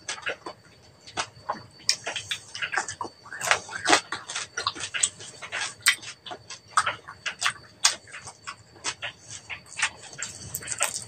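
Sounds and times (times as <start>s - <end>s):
chewing crispy pork skin: 0.0s - 11.0s.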